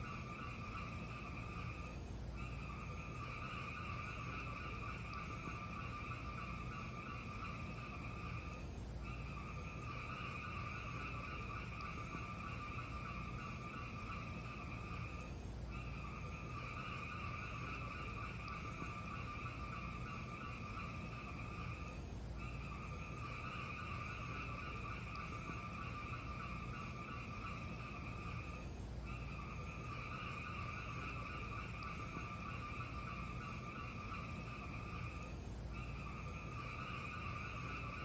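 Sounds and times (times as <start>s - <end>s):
fire burning in a fireplace: 0.0s - 38.0s
fire crackles: 0.0s - 38.0s.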